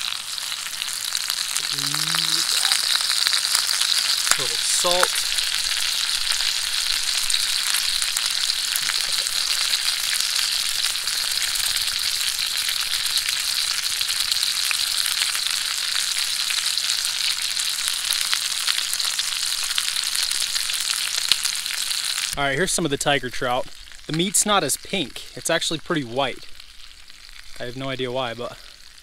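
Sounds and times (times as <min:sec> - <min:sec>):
fish frying in butter: 0:00.0 - 0:29.0.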